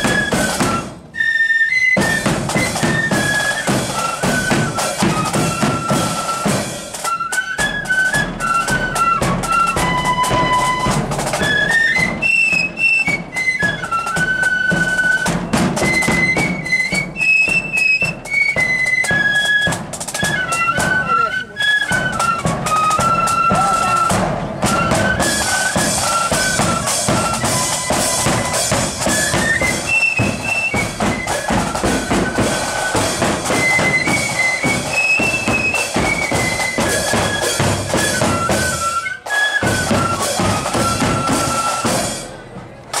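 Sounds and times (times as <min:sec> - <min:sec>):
snare drums beating: 0:00.0 - 0:01.1, 0:01.9 - 0:43.0
flutes playing in unison: 0:00.0 - 0:43.0.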